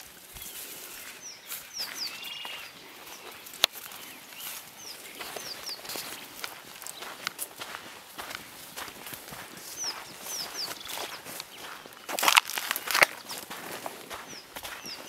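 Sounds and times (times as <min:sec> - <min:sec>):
birds chirping: 0:00.0 - 0:15.0
brush rustling: 0:00.0 - 0:15.0
footsteps: 0:00.0 - 0:15.0.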